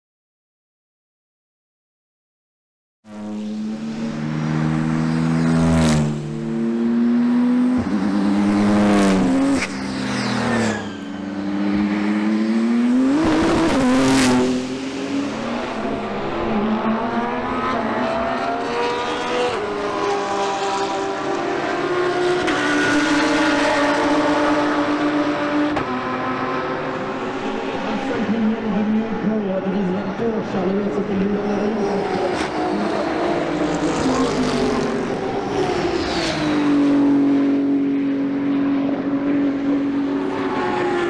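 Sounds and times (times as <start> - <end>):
race car engine accelerating: 3.1 - 41.0
race car passing by: 3.1 - 41.0.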